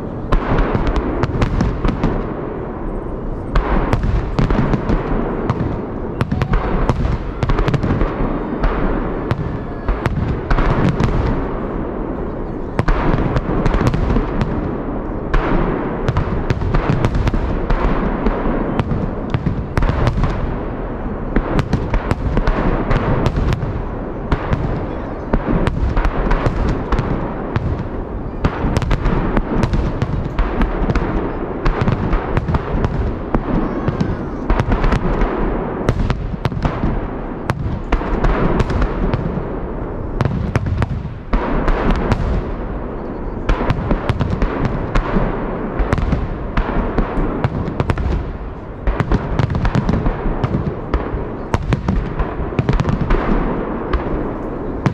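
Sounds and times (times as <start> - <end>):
firework shell bursts and crackles: 3.5 - 42.7, 43.5 - 54.9.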